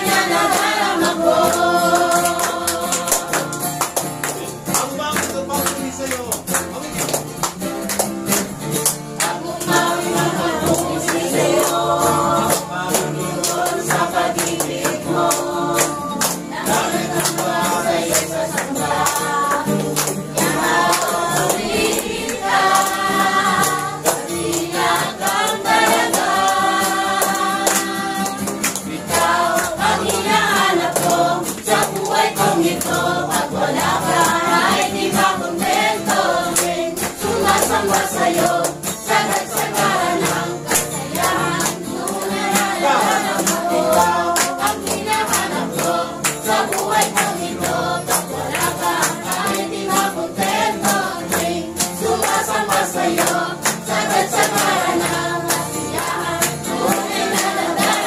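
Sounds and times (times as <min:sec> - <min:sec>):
congregation singing: 0:00.0 - 0:05.2, 0:06.6 - 0:58.0
guitar strumming: 0:00.0 - 0:58.0.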